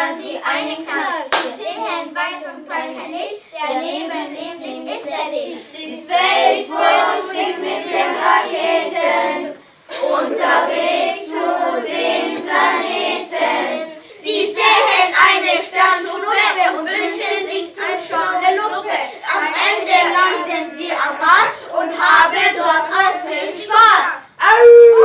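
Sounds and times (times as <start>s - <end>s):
children singing: 4.0s - 24.1s.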